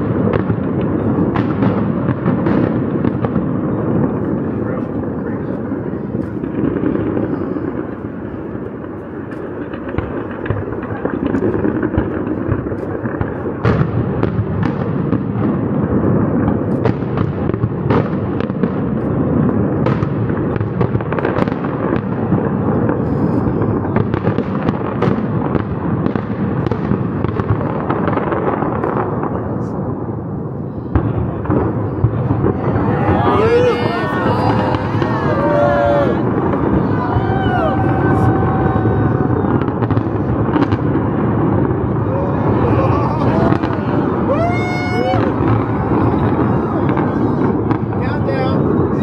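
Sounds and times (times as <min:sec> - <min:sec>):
fireworks cracks and pops: 0:00.0 - 0:49.0
rumble of fireworks bursts: 0:00.0 - 0:49.0.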